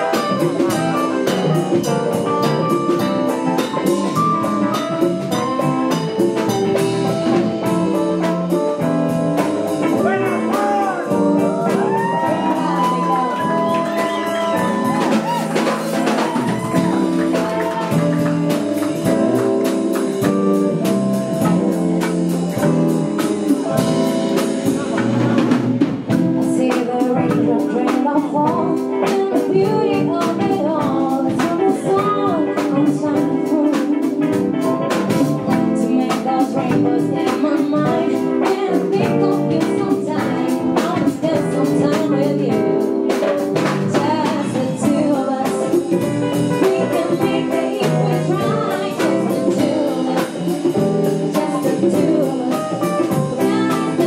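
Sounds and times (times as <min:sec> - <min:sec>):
jazz-funk band playing: 0:00.0 - 0:54.0.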